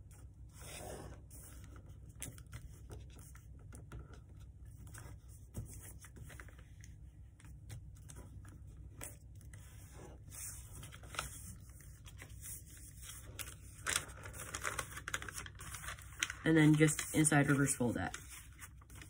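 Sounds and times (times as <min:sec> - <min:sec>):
paper folding and crinkling: 0:00.6 - 0:19.0.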